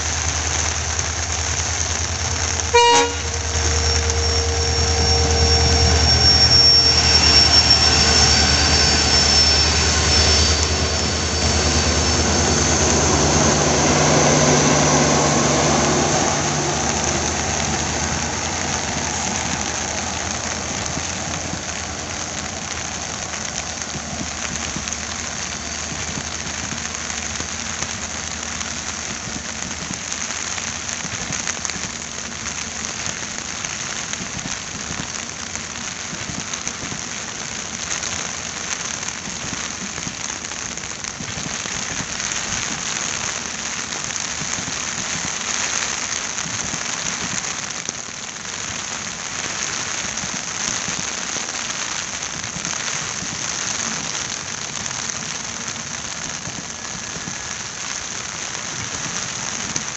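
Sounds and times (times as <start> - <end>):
heavy rain falling: 0.0 - 59.9
train coaches rolling on track: 0.0 - 59.9.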